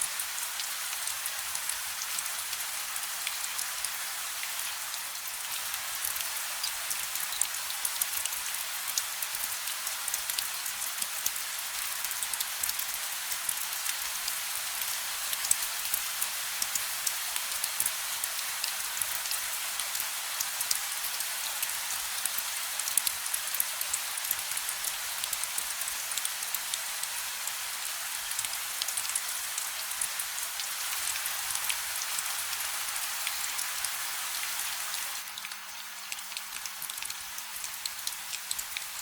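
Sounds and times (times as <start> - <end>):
raindrops ticking on a surface: 0.0 - 39.0.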